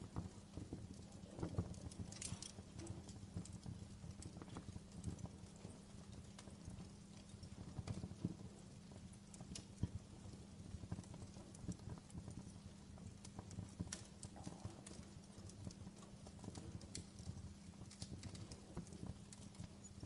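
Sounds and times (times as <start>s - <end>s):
campfire wood crackling: 0.0s - 20.0s.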